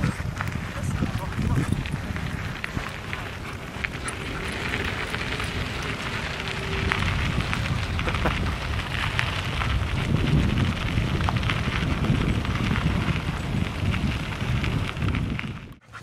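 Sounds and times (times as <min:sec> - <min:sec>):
wheels rolling over gravel: 0:00.0 - 0:15.8
wind buffeting microphone: 0:00.0 - 0:16.0.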